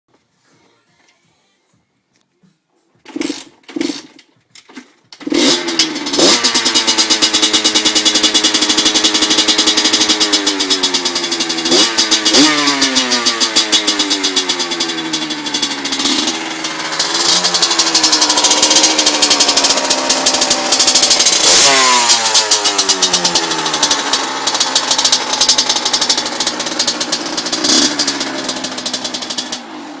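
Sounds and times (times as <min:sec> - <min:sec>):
motorcycle engine starting and revving: 0:03.0 - 0:30.0.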